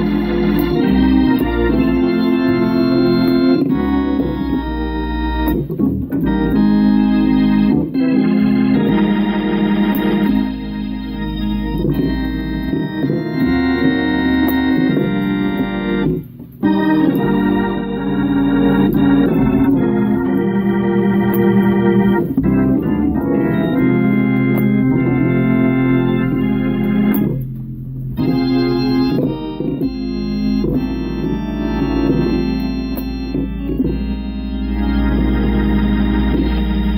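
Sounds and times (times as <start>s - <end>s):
organ playing gospel music: 0.0s - 36.9s.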